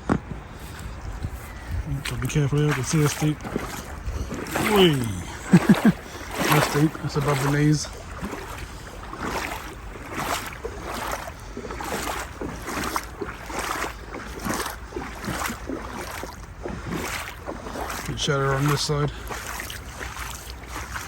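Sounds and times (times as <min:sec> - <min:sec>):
wading through water splashing: 0:00.1 - 0:21.0.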